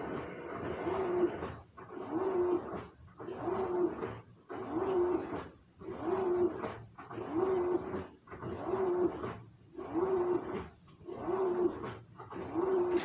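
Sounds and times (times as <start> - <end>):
washing machine churning water: 0.0 - 13.0.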